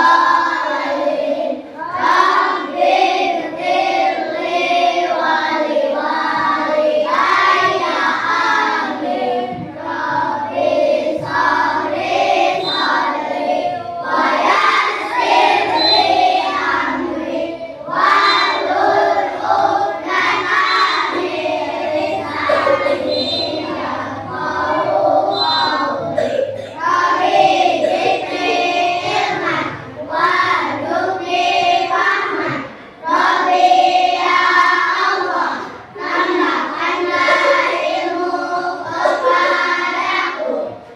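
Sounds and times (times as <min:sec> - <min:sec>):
children chanting in unison: 0:00.0 - 0:40.9.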